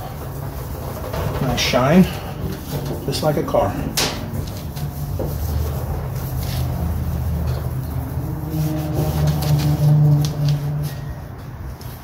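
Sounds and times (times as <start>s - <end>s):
cloth rubbing on metal lid: 0.0s - 10.9s
vehicle engine humming: 0.0s - 12.0s.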